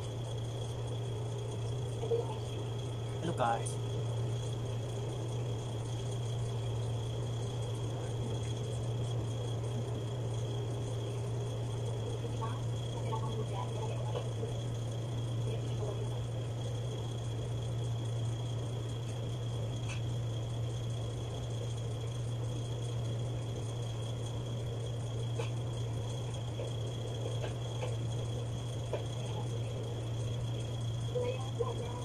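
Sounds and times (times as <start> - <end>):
steady low room hum: 0.0 - 32.0.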